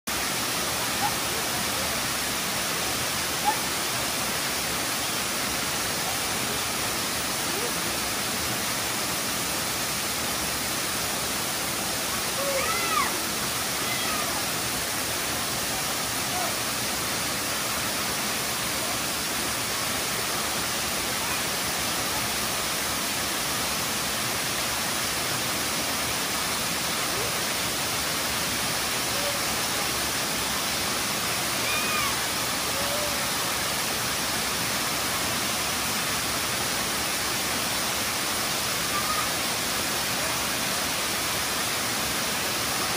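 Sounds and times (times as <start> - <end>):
waterfall rushing: 0.1 - 42.9.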